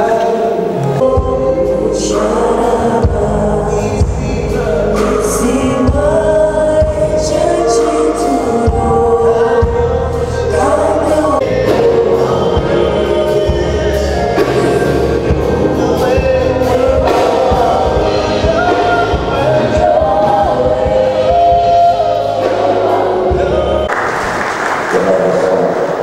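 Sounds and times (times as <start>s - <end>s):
choir singing gospel music: 0.0s - 24.4s
band with bass and drums: 0.0s - 24.9s.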